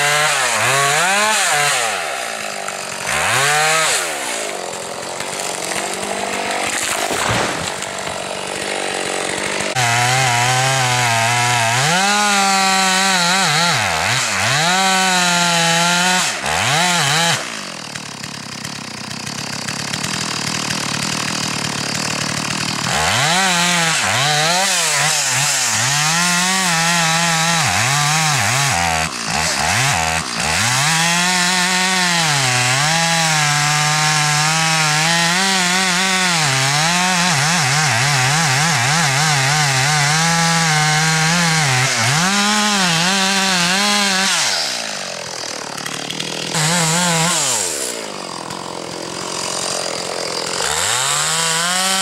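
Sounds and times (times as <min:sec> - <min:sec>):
chainsaw cutting into tree: 0:00.0 - 0:52.0.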